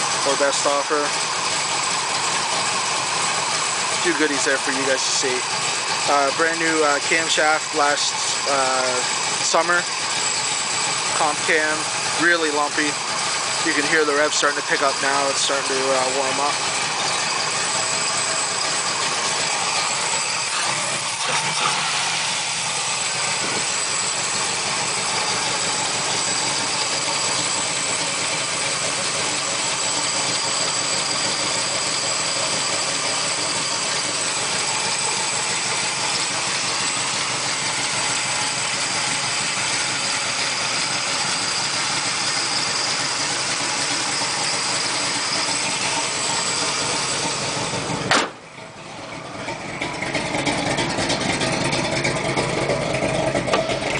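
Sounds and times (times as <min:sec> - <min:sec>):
car engine idling lumpily: 0:00.0 - 0:53.9.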